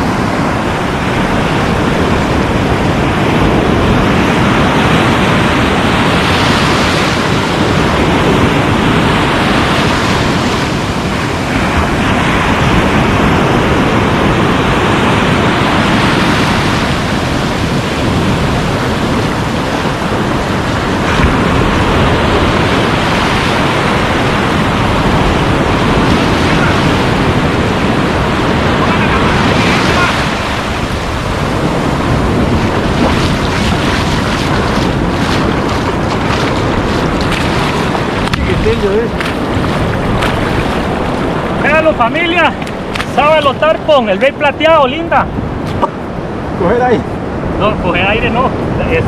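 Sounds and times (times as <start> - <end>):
surf breaking on shore: 0.0 - 49.0
wind on microphone: 0.0 - 49.0.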